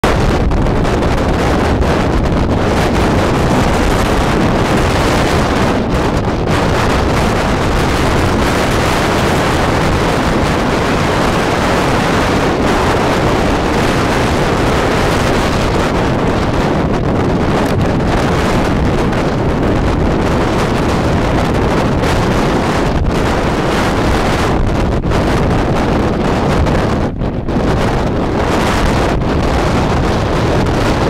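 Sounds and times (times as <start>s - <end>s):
strong wind rushing across microphone: 0.0s - 31.0s.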